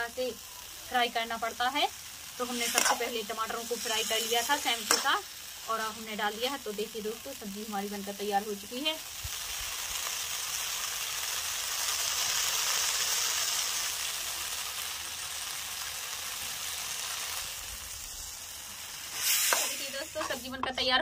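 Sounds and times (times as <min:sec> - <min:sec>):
curry sizzling in a pan: 0:00.0 - 0:21.0.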